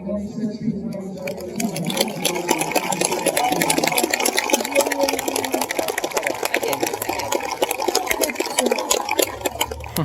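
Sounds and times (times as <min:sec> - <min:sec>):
murmur of spectator crowd: 0:00.0 - 0:10.0.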